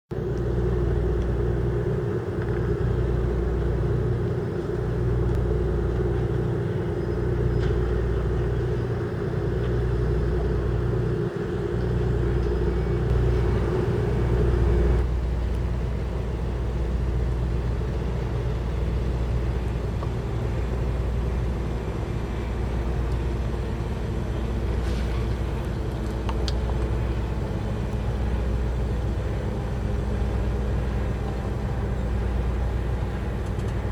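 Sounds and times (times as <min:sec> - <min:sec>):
diesel engine rumbling: 0:00.1 - 0:33.9
higher engine hum: 0:00.1 - 0:33.9.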